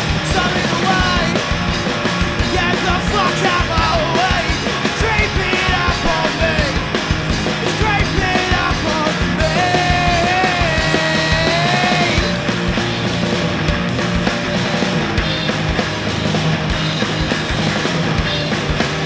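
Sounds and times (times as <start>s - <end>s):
punk rock band playing: 0.0s - 19.0s.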